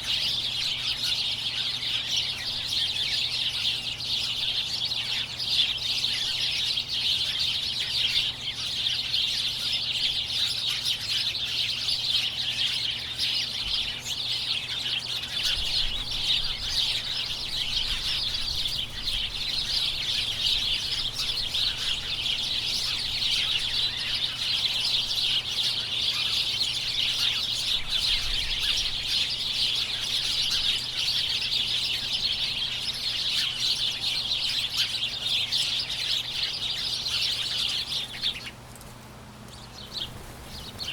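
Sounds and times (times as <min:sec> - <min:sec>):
flock of small birds chirping: 0:00.0 - 0:40.9.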